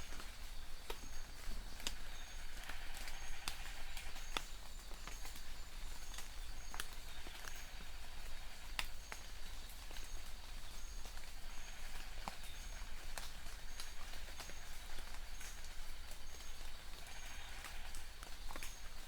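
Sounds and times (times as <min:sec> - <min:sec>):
rain falling: 0:02.6 - 0:19.0.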